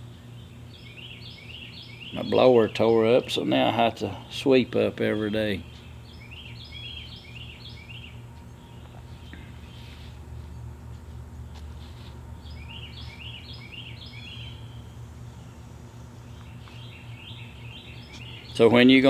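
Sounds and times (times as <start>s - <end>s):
steady low hum: 0.0s - 19.0s
bird chirping: 0.1s - 19.0s.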